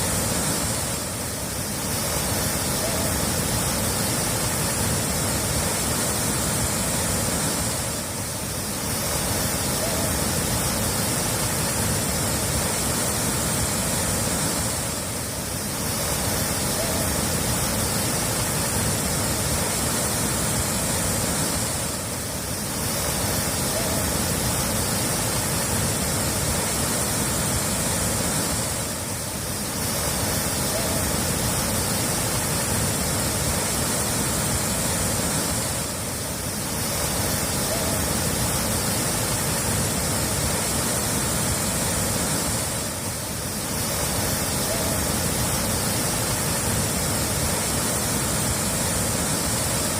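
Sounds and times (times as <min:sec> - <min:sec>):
running water rushing: 0:00.0 - 0:49.9.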